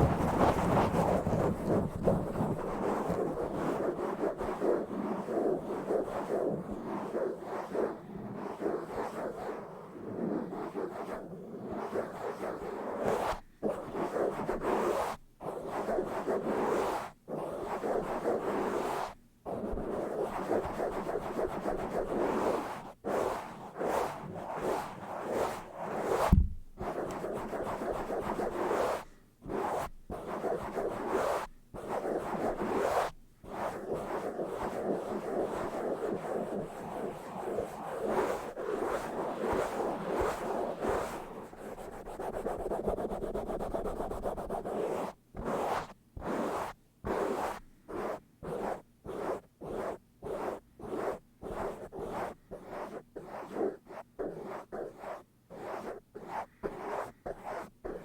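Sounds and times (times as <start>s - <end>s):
scratching on microphone: 0.0s - 58.0s.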